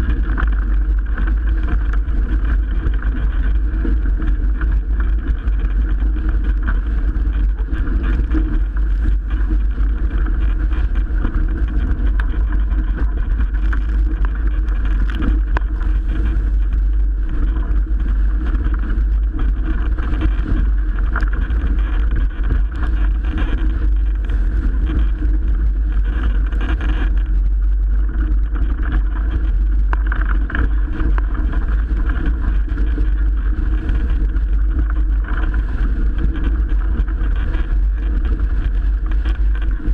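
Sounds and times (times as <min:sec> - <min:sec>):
water rushing past a hull: 0:00.0 - 0:39.9
wind rumble on microphone: 0:00.0 - 0:39.9.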